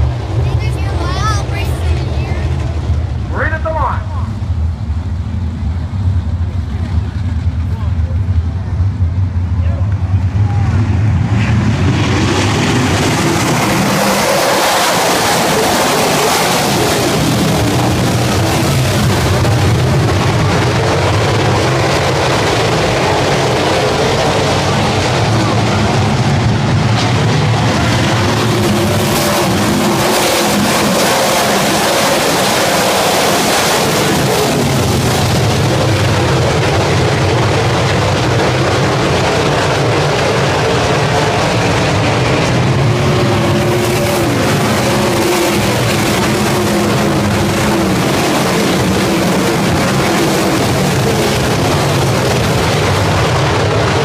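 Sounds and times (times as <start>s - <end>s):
race car engines roaring: 0.0s - 54.0s.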